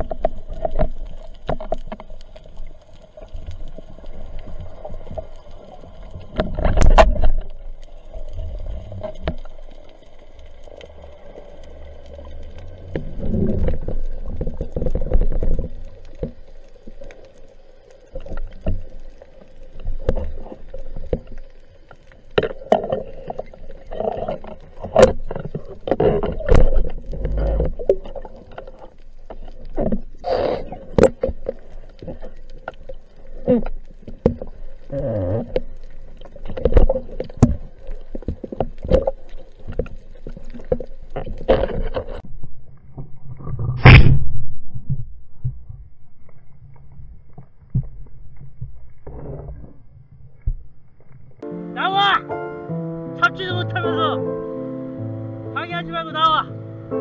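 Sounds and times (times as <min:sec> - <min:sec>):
underwater rumbling water surges: 0:00.0 - 0:45.8.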